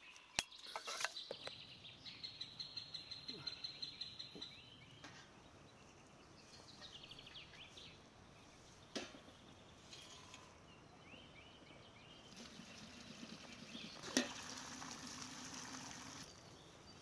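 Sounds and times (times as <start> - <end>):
faint bird chirping: 0.0 - 14.0, 16.0 - 17.0.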